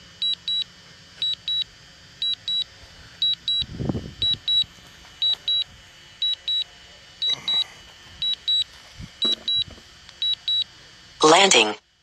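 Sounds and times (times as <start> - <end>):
remote controller beeping: 0.2 - 10.7.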